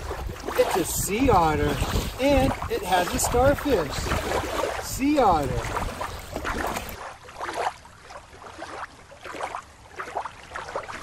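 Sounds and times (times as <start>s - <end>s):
water lapping at shoreline: 0.0s - 11.0s.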